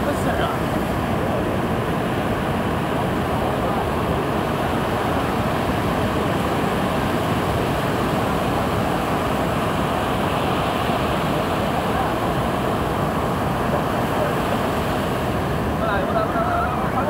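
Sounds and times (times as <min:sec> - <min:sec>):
surf breaking on a sandy beach: 0:00.0 - 0:17.0.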